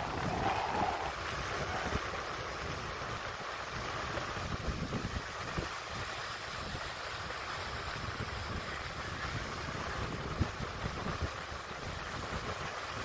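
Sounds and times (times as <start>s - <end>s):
surf washing over rocks: 0.0s - 13.0s
wind buffeting the microphone: 0.0s - 13.0s.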